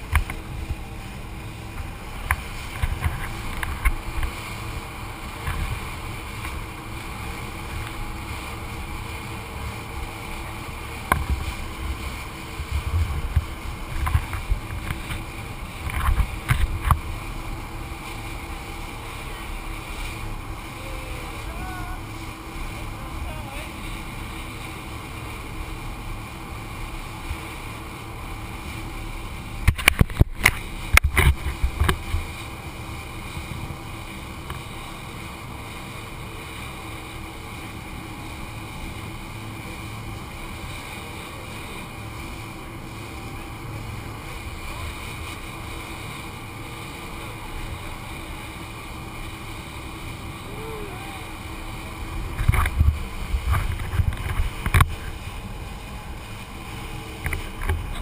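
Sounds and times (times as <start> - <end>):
boat engine: 0.0 - 58.0
rushing water and wind: 0.0 - 58.0.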